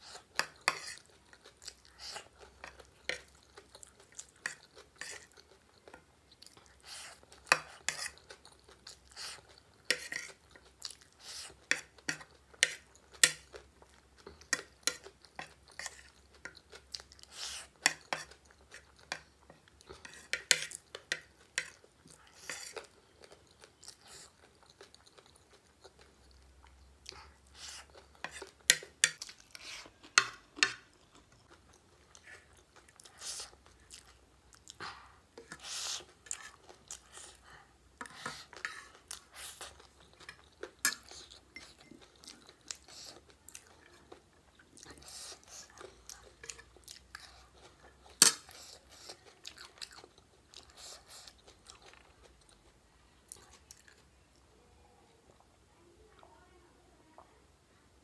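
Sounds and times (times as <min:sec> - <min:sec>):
mouth chewing wet food: 0:00.0 - 0:54.5.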